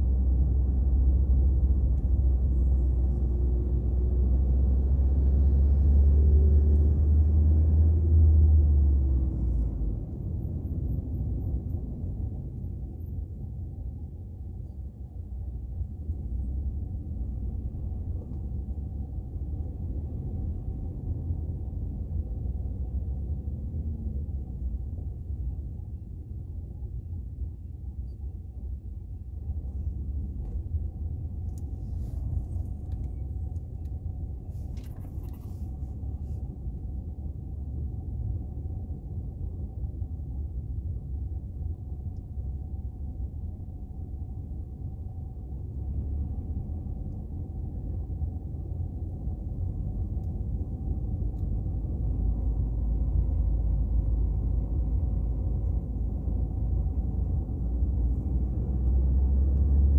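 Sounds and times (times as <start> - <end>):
car engine rumble and road noise: 0.0 - 59.9.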